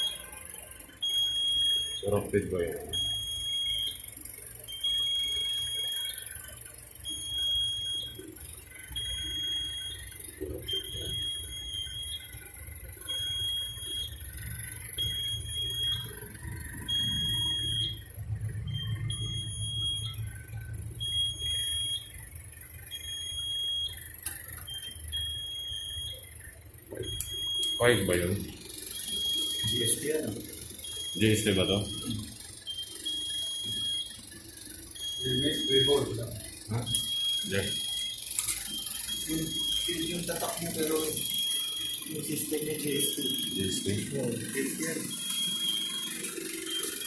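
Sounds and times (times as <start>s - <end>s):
alarm panel buzzer beeping: 0.0s - 47.0s.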